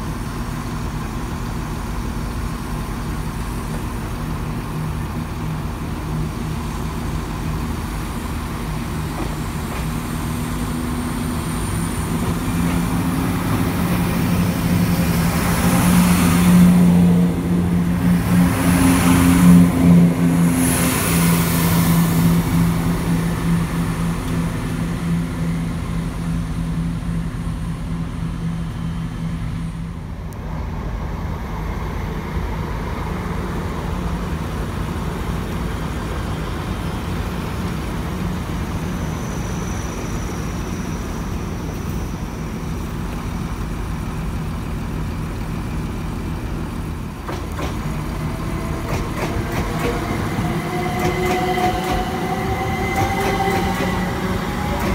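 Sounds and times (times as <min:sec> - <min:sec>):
diesel engines droning: 0:00.0 - 0:54.9
train hum: 0:00.0 - 0:54.9
wheels rushing on rails: 0:00.0 - 0:54.9.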